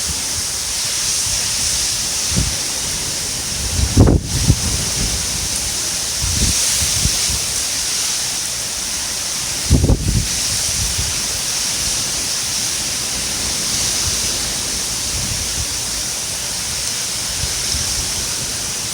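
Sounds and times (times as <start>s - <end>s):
rain falling: 0.0s - 18.9s.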